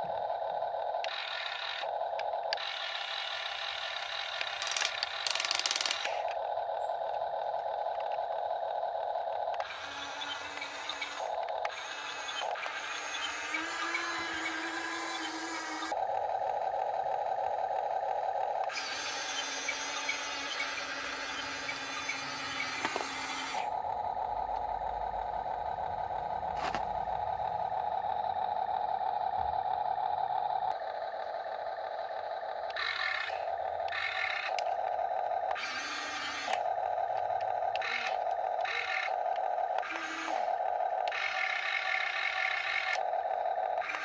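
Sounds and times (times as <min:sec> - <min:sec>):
gears grinding rasp: 0:00.0 - 0:16.0, 0:18.6 - 0:23.9, 0:24.5 - 0:28.7, 0:29.4 - 0:44.0
small electric motors whining: 0:00.0 - 0:44.0.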